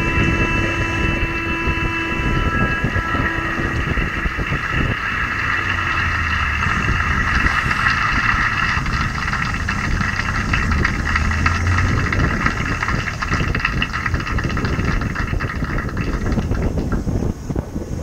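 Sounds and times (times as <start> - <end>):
motorcycle engine running: 0.0 - 17.3
rushing wind noise: 0.0 - 18.0.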